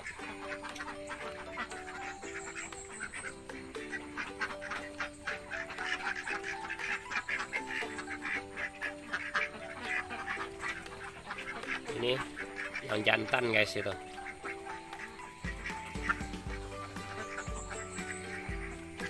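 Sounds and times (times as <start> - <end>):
ducks quacking: 0.0 - 19.0
simple background music: 0.0 - 19.0.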